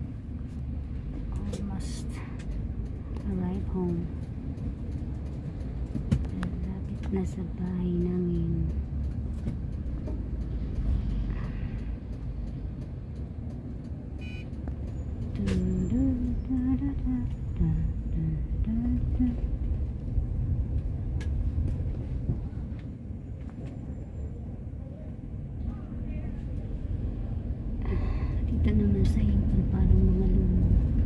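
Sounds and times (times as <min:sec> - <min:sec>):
car engine rumble and road noise: 0:00.0 - 0:31.0.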